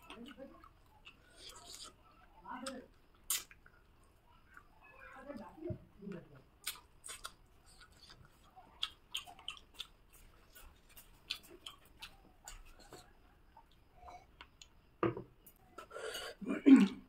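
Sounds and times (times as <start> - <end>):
quiet chewing: 0.0 - 17.0.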